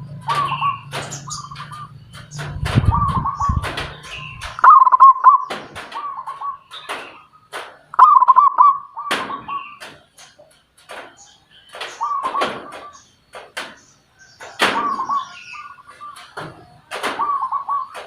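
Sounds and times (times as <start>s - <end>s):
bird trilling: 0.0s - 10.3s, 11.1s - 18.0s.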